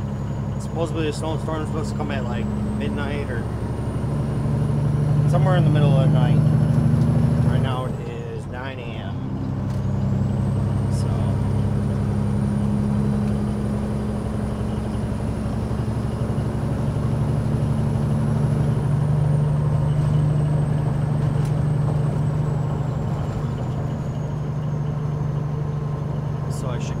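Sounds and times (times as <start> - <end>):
diesel truck engine cruising: 0.0 - 27.0
road noise: 0.0 - 27.0.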